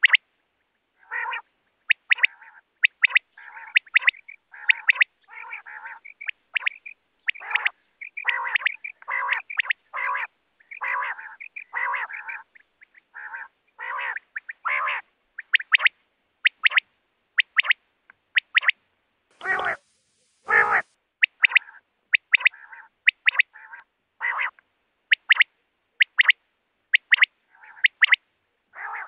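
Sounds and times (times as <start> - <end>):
quail calling: 0.0 - 0.2, 1.0 - 16.8, 18.4 - 18.8, 19.4 - 28.2, 28.8 - 29.0.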